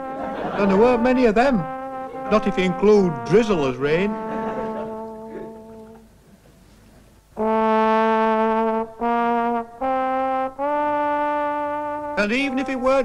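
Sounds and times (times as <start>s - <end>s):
slow brass music: 0.0s - 6.2s, 7.2s - 13.0s.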